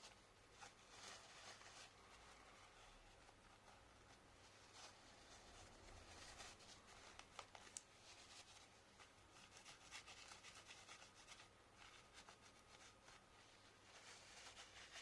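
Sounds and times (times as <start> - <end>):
rubbing and light scratching: 0.0 - 15.0.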